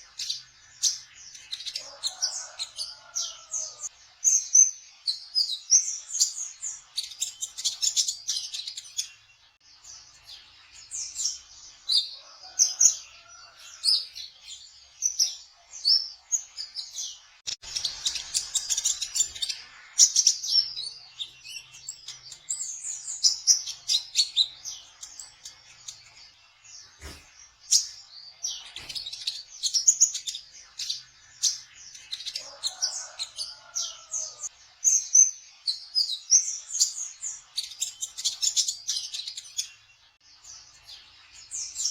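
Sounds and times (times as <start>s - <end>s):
sunbird twittering song: 0.0s - 41.9s.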